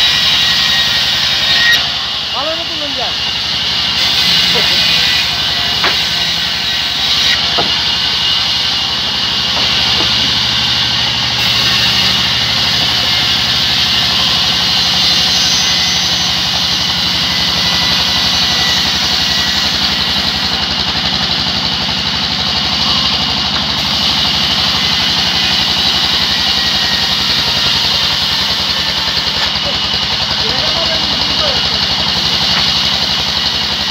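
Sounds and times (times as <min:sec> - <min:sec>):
band saw cutting a log: 0:00.0 - 0:33.9.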